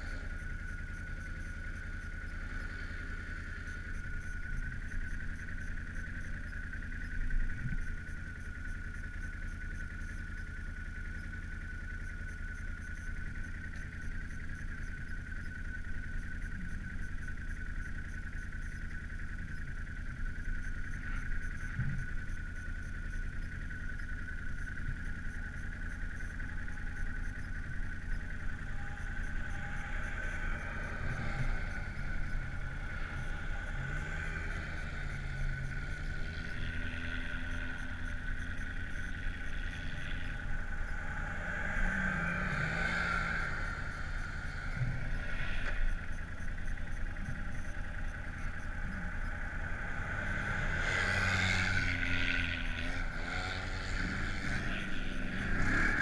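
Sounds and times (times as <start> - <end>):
atv engine revving: 0.0 - 56.0
steady high whine: 0.0 - 56.0.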